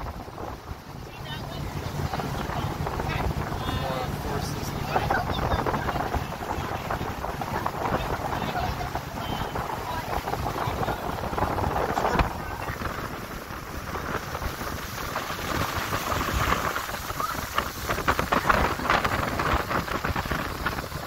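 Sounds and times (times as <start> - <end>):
water rushing past a motorboat: 0.0 - 21.0
wind buffeting microphone: 0.0 - 21.0.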